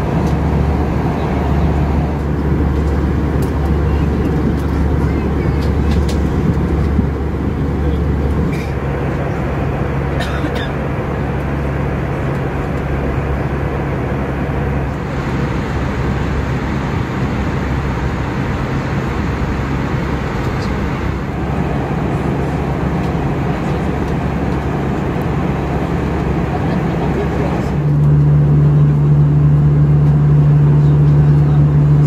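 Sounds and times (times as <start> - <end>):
airplane engine drone in cabin: 0.0 - 32.0.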